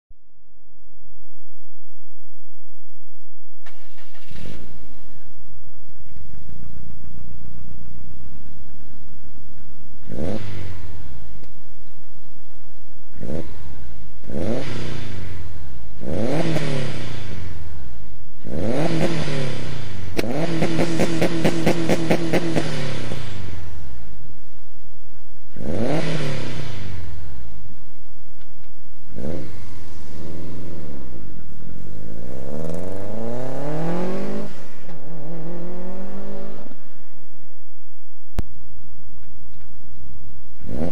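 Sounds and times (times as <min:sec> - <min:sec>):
car engine idling and revving: 0:00.1 - 0:40.9.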